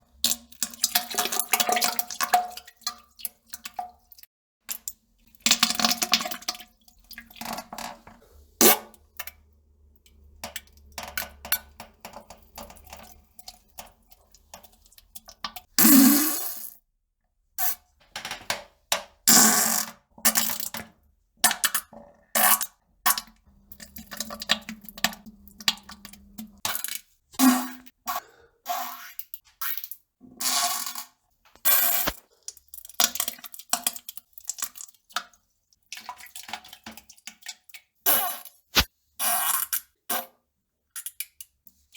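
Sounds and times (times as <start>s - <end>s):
splashes and plops in toilet water: 0.0s - 16.8s, 17.6s - 30.4s, 31.0s - 39.0s.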